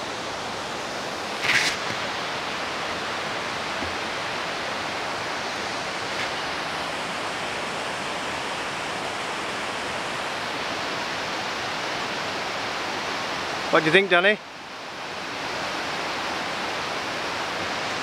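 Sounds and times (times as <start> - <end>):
waterfall and river rapids rushing: 0.0 - 18.0.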